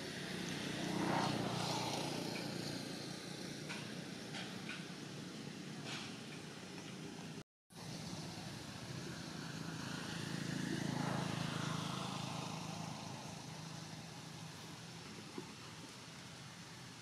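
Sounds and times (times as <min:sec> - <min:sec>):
vehicle passing by: 0:00.0 - 0:06.3, 0:07.3 - 0:17.0.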